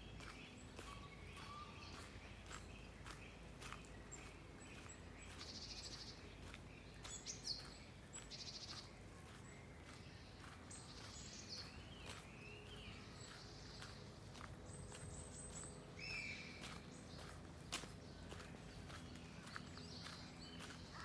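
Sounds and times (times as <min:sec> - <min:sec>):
footsteps on gravel: 0:00.0 - 0:21.0
songbirds trilling and chirping: 0:00.0 - 0:21.0.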